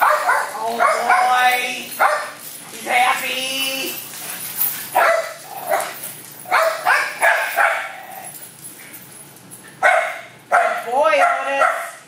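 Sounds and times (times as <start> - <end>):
dogs barking and yipping: 0.0 - 2.9, 3.9 - 12.0.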